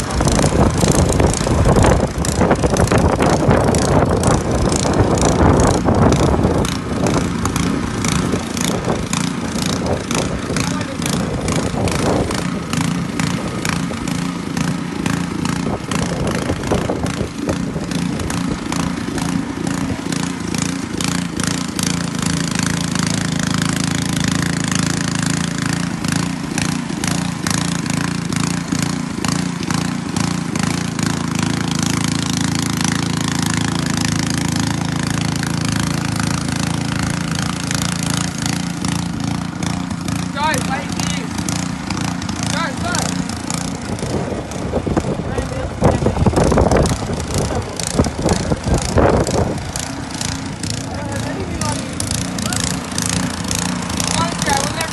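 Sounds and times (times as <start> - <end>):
snow blower engine running: 0.0 - 54.9.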